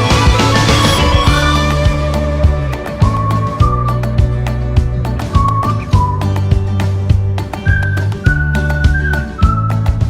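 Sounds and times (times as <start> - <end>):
music with beat and bass: 0.0 - 10.0
whistled melody: 0.1 - 10.0.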